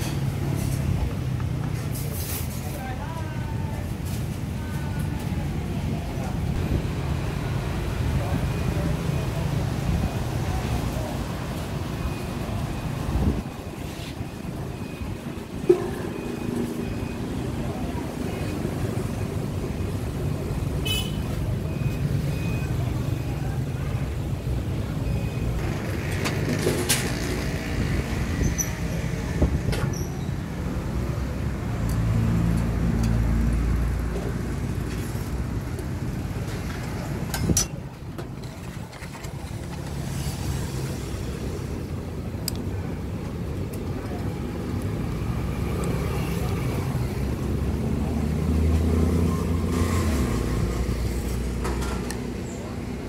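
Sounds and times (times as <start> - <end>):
vehicles passing close by: 0.0 - 53.0.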